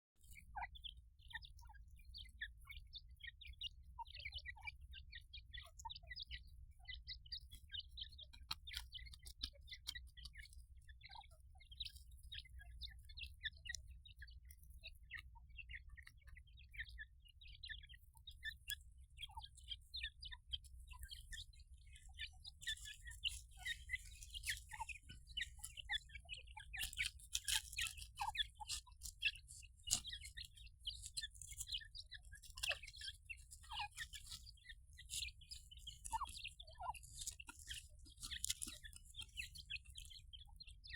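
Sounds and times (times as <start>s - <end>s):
chicks cheeping: 0.3s - 40.9s.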